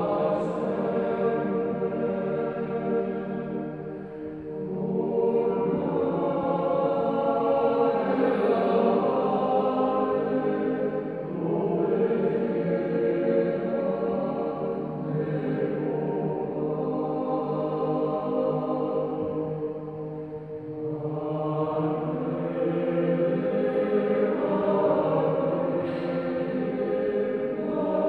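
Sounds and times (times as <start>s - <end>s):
men's choir singing a cappella: 0.0s - 28.0s.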